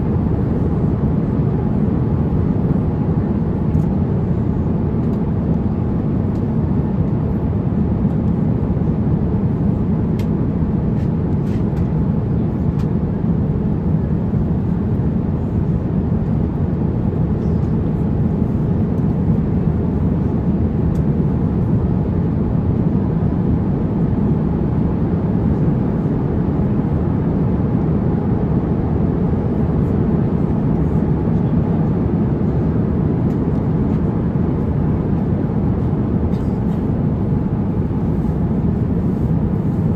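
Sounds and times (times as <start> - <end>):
airliner cabin roar: 0.0 - 39.9.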